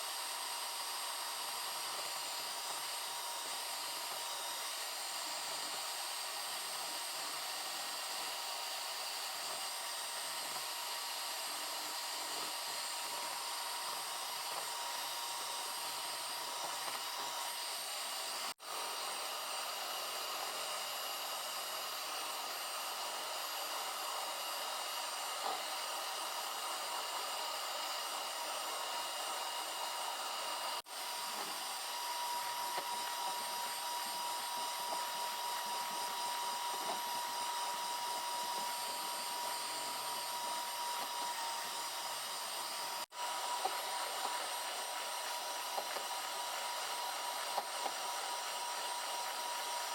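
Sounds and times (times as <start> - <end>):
electric mixer motor whirring: 0.0 - 49.9
faint motor whine: 0.0 - 49.9.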